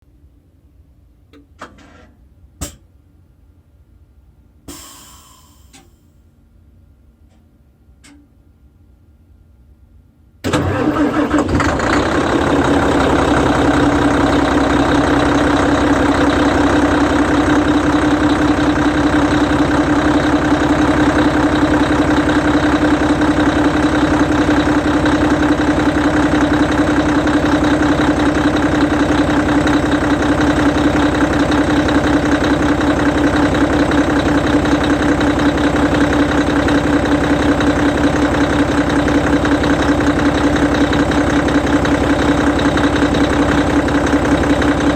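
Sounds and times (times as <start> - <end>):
diesel bus engine starting: 4.7 - 6.2, 10.4 - 44.9.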